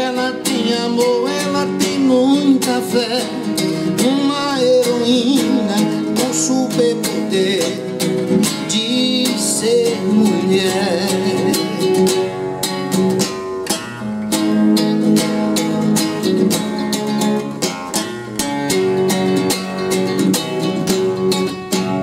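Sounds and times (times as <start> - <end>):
acoustic guitar strummed: 0.0 - 22.0.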